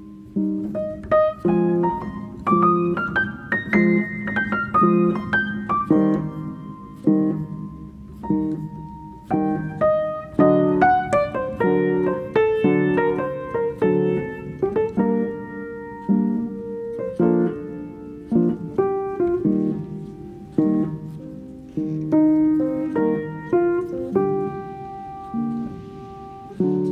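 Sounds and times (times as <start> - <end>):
piano notes and chords: 0.0 - 26.9.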